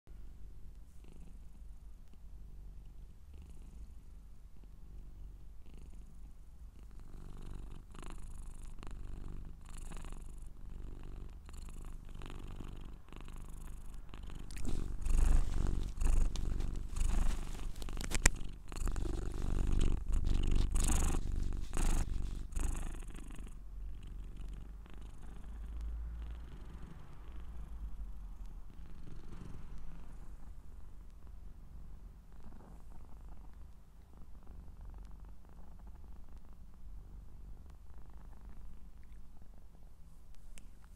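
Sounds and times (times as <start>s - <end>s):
cat purring: 0.1s - 40.9s.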